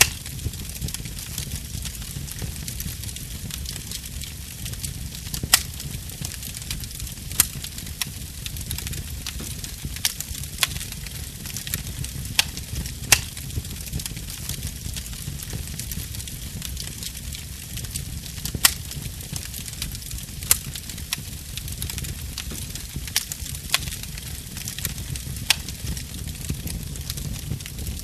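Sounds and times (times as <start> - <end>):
low rumble and hiss: 0.0 - 28.0
wood fire crackling and popping: 0.0 - 28.0.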